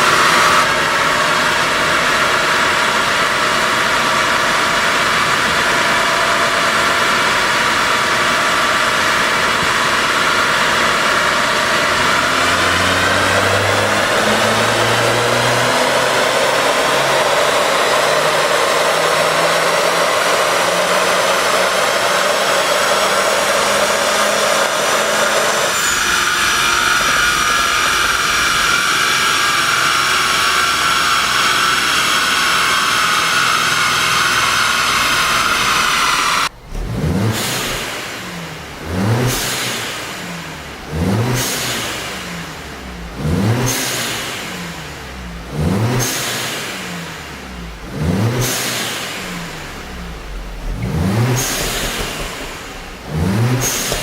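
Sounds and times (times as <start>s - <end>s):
car engine and dyno rollers rushing: 0.0s - 54.0s.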